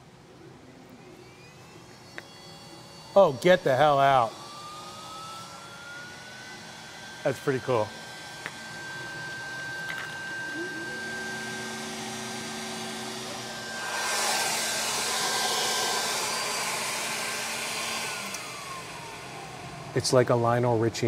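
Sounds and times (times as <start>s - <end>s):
airy whir of fans: 0.0s - 21.0s.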